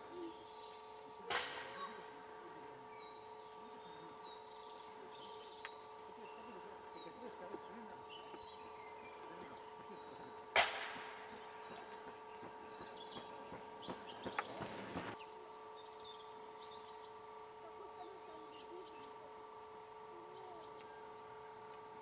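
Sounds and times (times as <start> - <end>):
small birds chirping: 0.0 - 10.5, 11.2 - 22.0.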